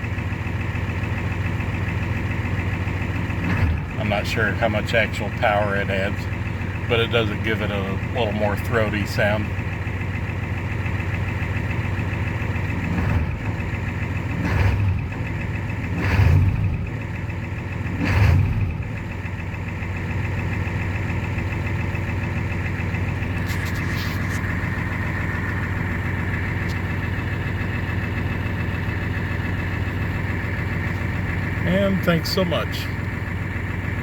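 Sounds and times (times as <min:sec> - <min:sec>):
diesel engine revving and idling: 0:00.0 - 0:34.0.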